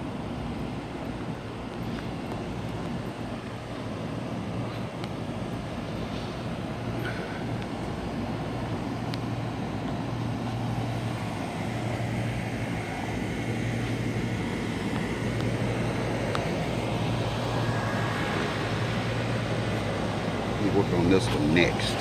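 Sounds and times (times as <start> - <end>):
air conditioning fan rushing: 0.0 - 22.0.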